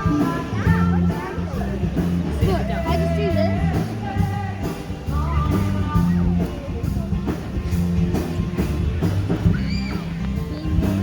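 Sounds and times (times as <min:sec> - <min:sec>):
rock and roll song with guitar: 0:00.0 - 0:11.0.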